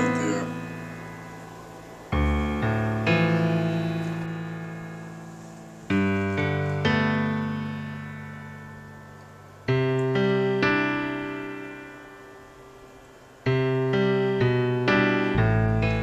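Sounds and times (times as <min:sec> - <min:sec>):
piano-like keyboard chords: 0:00.0 - 0:16.0.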